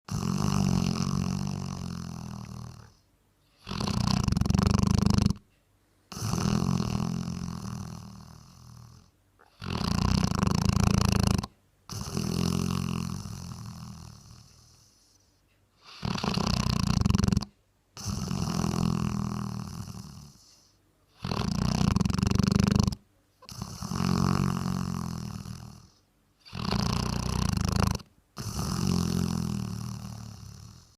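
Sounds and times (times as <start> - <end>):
dog snoring: 0.1 - 5.4, 6.1 - 30.9.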